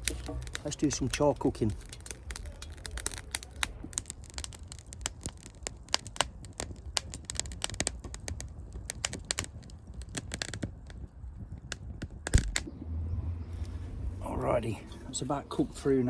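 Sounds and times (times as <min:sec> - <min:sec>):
wood fire crackling and popping: 0:00.0 - 0:13.8.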